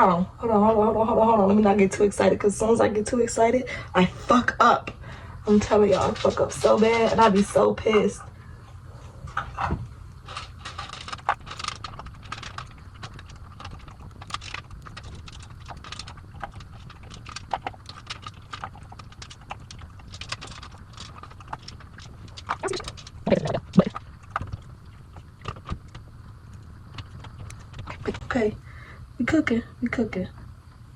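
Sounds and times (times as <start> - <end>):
low room hum: 0.0 - 30.9.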